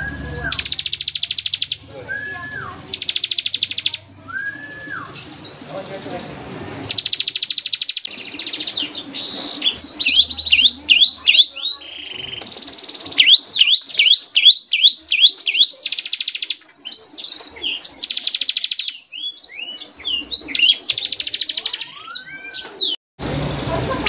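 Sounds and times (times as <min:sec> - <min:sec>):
bird singing fast trills: 0:00.0 - 0:23.0.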